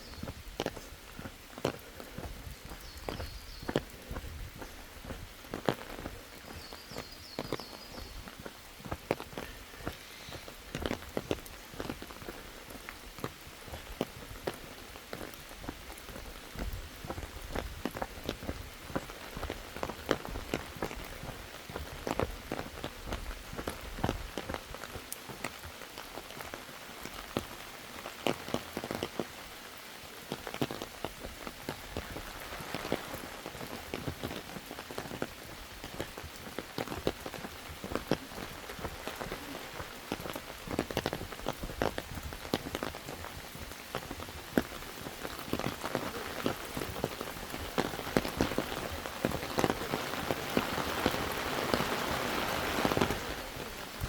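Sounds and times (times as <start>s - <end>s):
rain drops ticking on surfaces: 0.0s - 54.0s
rain hiss: 0.0s - 54.0s.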